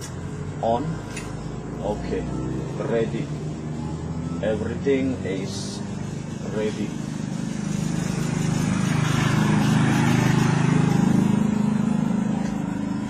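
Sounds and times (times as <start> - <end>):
engine low pulsing hum: 0.0 - 13.0.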